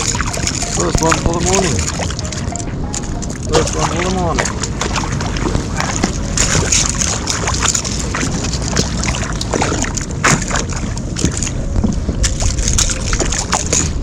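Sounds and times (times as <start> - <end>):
water splashing against a kayak: 0.0 - 14.0
wind rumbling on the microphone: 0.0 - 14.0.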